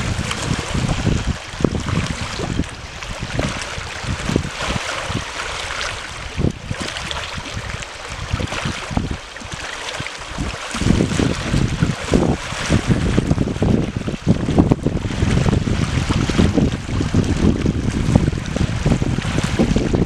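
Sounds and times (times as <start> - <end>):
waves washing and splashing: 0.0 - 20.0
wind buffeting microphone: 0.0 - 20.0.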